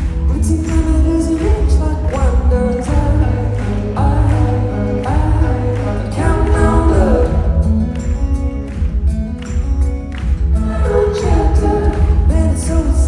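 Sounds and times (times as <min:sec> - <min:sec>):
person singing: 0:00.0 - 0:08.1, 0:10.5 - 0:13.0
heavy bass: 0:00.0 - 0:13.0
live rock band playing: 0:00.0 - 0:13.0.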